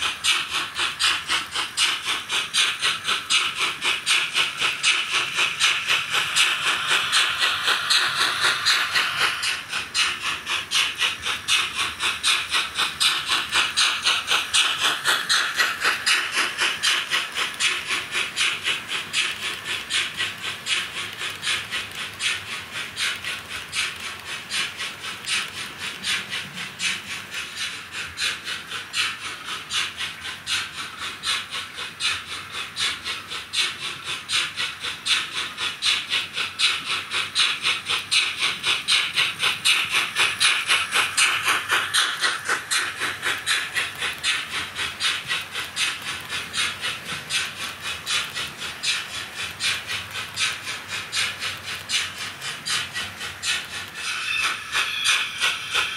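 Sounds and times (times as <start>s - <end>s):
hissy steam chuffing from speaker: 0.0s - 55.9s.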